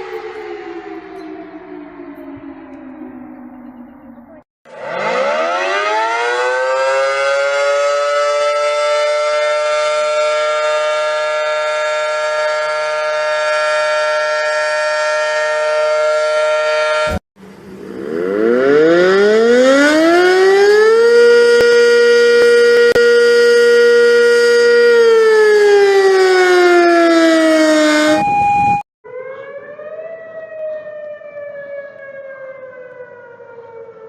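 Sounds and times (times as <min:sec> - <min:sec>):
siren winding up low tone: 0:00.0 - 0:34.0
warning siren two-note tone: 0:00.0 - 0:34.0.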